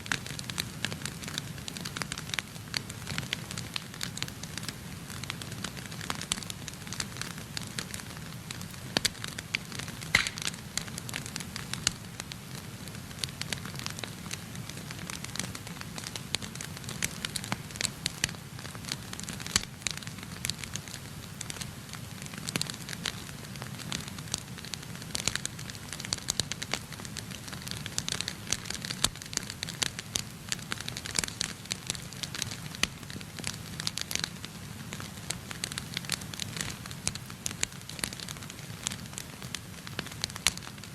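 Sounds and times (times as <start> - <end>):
fire pops and snaps: 0.0 - 40.9
wood fire crackling: 0.0 - 40.9.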